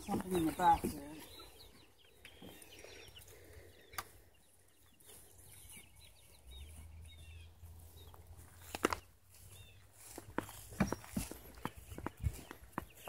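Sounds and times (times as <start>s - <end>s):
hens clucking: 0.0s - 10.5s.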